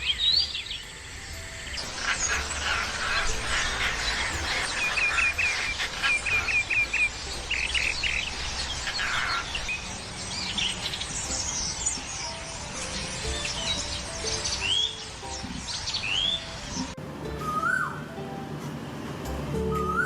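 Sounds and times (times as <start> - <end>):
small birds chirping: 0.0 - 18.1.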